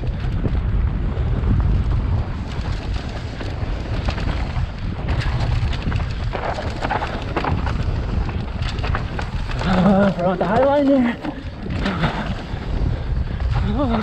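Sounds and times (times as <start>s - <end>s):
bike rattling and clicking: 0.0s - 14.0s
bike tyres rolling over dirt: 0.0s - 14.0s
wind buffeting microphone: 0.0s - 14.0s.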